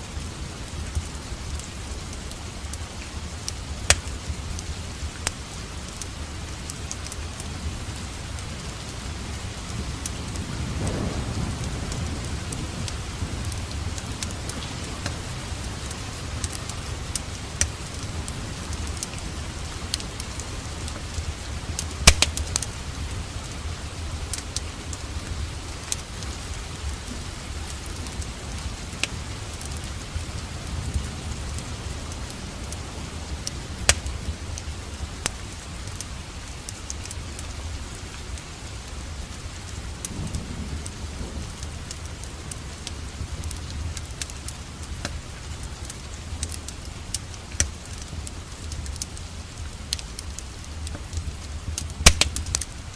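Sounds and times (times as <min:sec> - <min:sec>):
steady rain: 0:00.0 - 0:52.9
wood fire crackling: 0:00.0 - 0:52.9.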